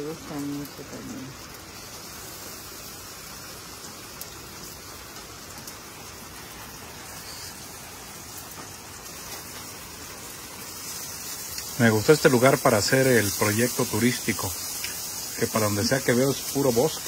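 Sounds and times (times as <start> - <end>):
scattered raindrops: 0.0 - 17.0
steady rain hiss: 0.0 - 17.0.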